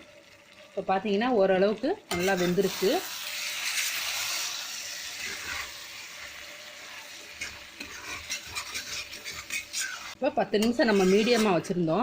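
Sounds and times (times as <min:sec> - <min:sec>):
chicken sizzling in hot oil: 0:00.0 - 0:12.0
spoon scraping pan: 0:02.1 - 0:12.0.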